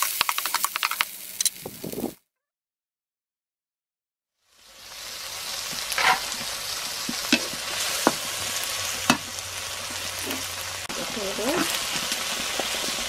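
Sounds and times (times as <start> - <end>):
vegetables sizzling in a wok: 0.0 - 2.2, 4.4 - 13.0.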